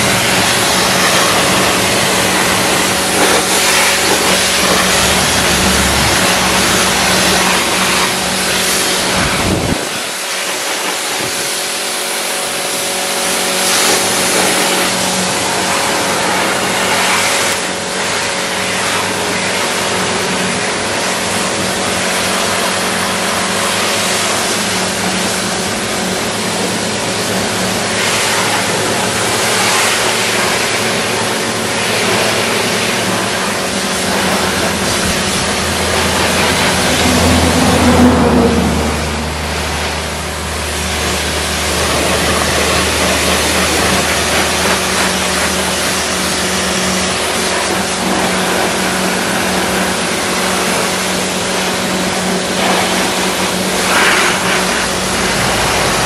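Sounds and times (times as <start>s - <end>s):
pump motor humming: 0.0s - 56.0s
water jet hissing on metal: 0.0s - 56.0s.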